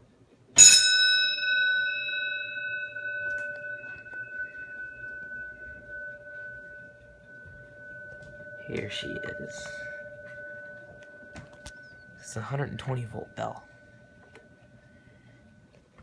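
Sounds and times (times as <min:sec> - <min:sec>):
bell gong ringing: 0:00.6 - 0:16.0.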